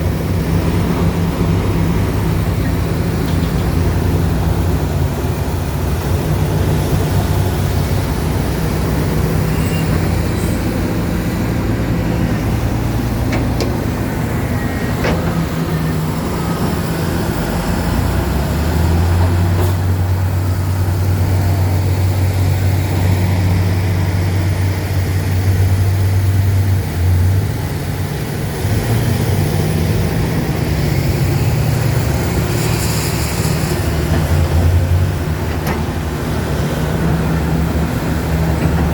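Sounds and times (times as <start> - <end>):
diesel machinery engine drone: 0.0 - 38.9.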